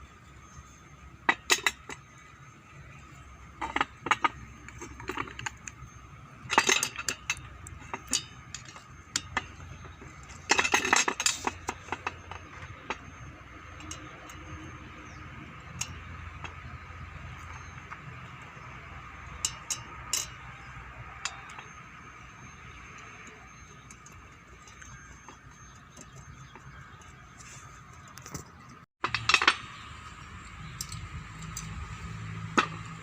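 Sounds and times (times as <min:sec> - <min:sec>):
metal tools and parts clinking: 0:01.2 - 0:33.0.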